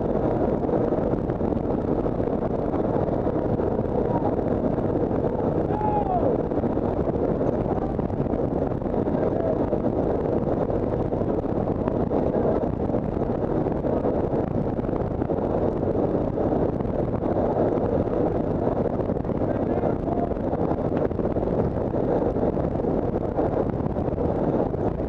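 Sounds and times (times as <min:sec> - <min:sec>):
rushing air: 0:00.0 - 0:25.0.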